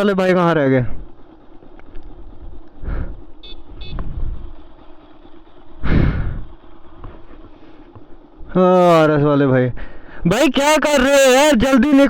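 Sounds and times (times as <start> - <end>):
motorcycle engine idling low: 0.0 - 10.3.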